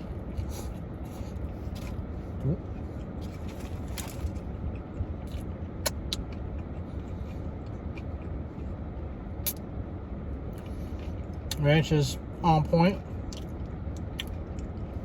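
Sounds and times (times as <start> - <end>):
man chewing food: 0.0 - 9.6, 10.4 - 11.6, 13.0 - 15.0
low background rumble: 0.0 - 15.0.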